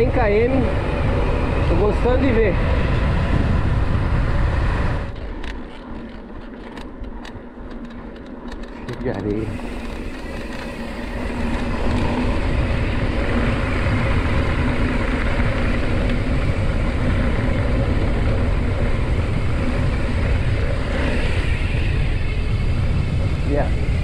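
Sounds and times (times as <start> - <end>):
bike tyres rolling on dirt: 0.0 - 24.0
wind rushing over microphone: 0.0 - 24.0.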